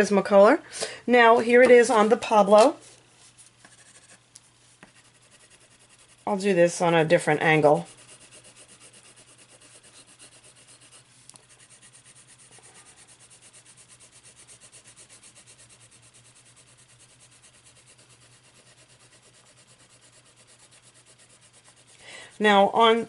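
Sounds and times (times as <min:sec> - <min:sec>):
pencil scratching on paper: 0:03.4 - 0:22.9.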